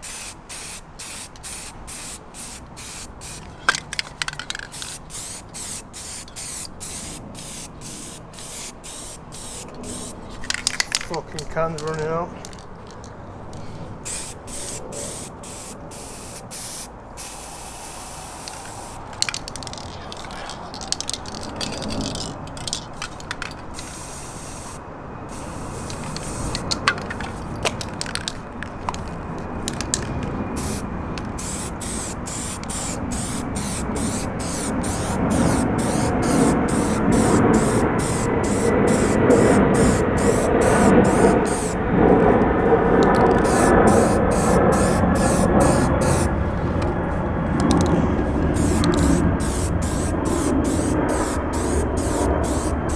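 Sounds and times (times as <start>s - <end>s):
spray can hissing: 0.0s - 11.0s, 14.0s - 27.1s, 29.7s - 41.8s, 43.0s - 46.3s, 48.5s - 52.9s
low rushing noise: 2.6s - 52.9s.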